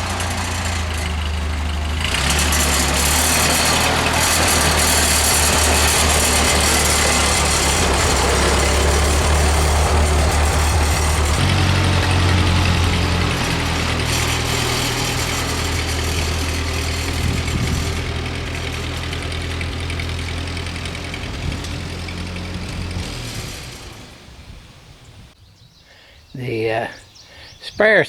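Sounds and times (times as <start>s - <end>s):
tractor engine running: 0.0s - 25.4s.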